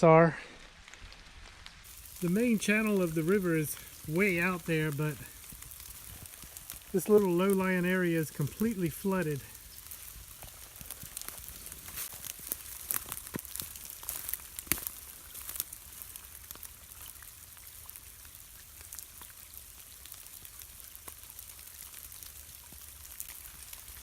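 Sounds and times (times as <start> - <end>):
rain falling: 0.0 - 24.0
raindrops ticking: 0.6 - 24.0.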